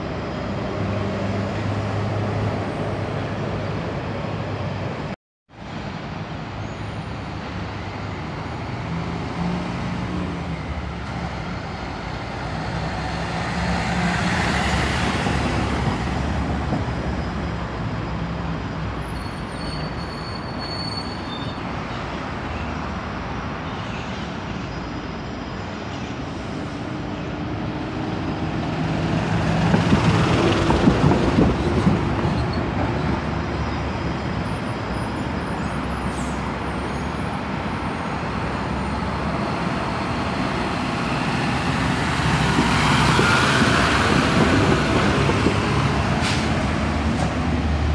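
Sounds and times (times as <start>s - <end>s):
diesel bus engine drone: 0.0s - 19.7s, 21.8s - 47.9s
bus passing: 0.0s - 47.9s.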